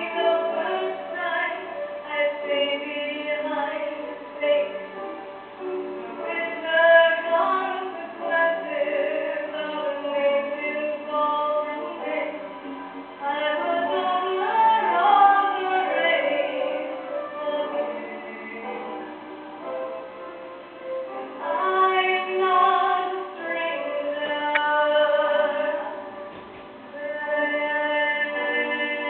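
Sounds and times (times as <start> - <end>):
woman singing a ballad: 0.0 - 5.2, 5.8 - 19.7, 21.2 - 26.3, 26.9 - 29.0.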